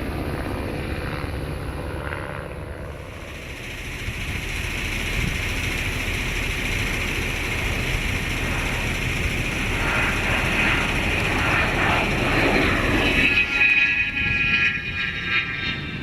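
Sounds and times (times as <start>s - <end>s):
plane engine passing: 0.0s - 16.0s.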